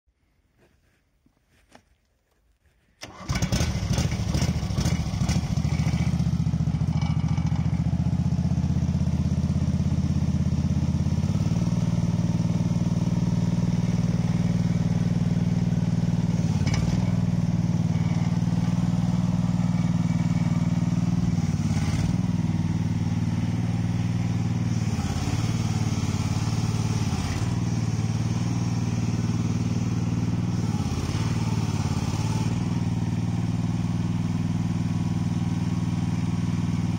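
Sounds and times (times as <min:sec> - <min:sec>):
small petrol engine running: 0:03.0 - 0:36.9.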